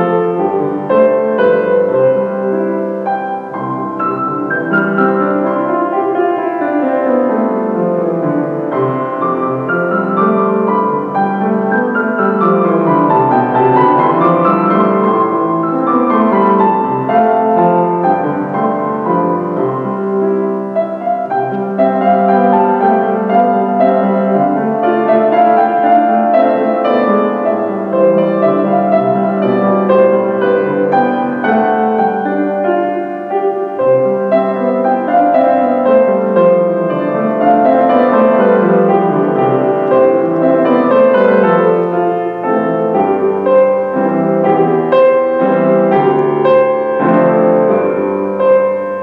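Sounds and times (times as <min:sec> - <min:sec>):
solo piano classical piece: 0:00.0 - 0:49.0.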